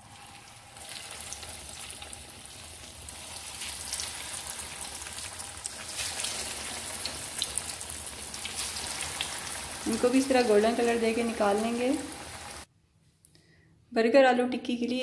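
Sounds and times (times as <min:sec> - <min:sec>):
oil crackling and popping: 0:00.0 - 0:12.7
patties sizzling in hot oil: 0:00.0 - 0:12.7.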